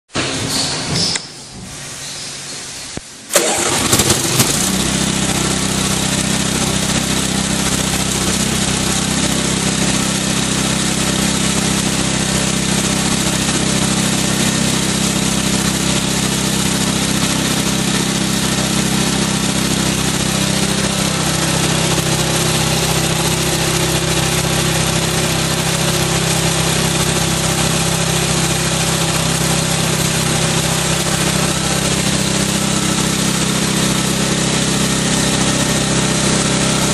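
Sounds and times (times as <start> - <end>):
small gasoline engine running: 3.3 - 36.9.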